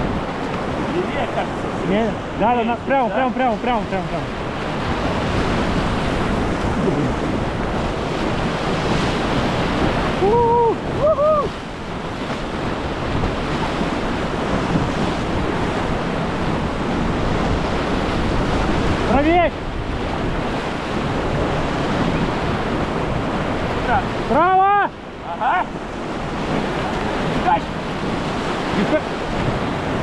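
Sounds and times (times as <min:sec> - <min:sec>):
wind on microphone: 0:00.0 - 0:24.7, 0:25.3 - 0:30.0
river rapids rushing: 0:00.0 - 0:30.0.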